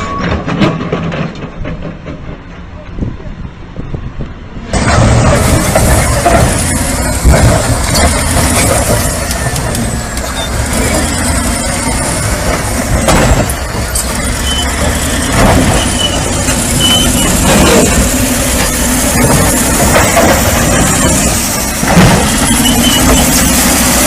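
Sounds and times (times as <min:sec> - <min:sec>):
heavy vehicle engine rumbling: 0:00.0 - 0:24.0.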